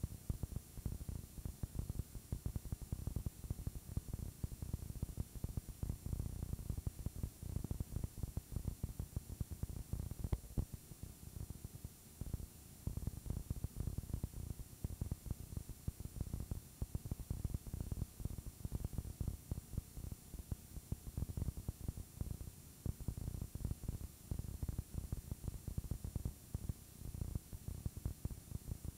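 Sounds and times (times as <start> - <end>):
low crackle and rumble: 0.0 - 28.9
steady hiss: 0.0 - 28.9.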